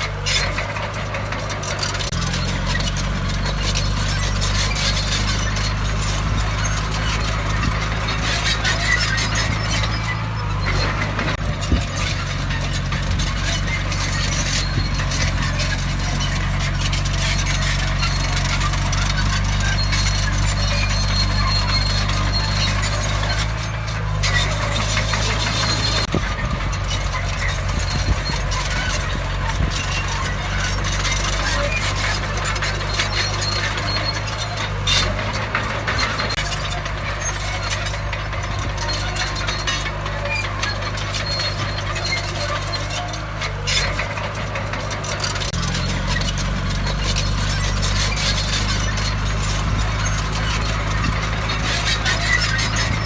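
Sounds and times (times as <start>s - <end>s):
diesel engine droning: 0.0s - 53.0s
metallic clanking and clatter: 0.0s - 53.0s
thin high squeal: 0.1s - 53.0s.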